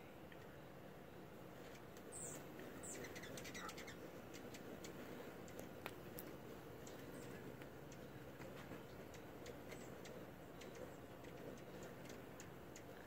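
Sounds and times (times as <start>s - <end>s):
steady low hum: 0.0s - 13.0s
hummingbird chip calls: 1.7s - 13.0s.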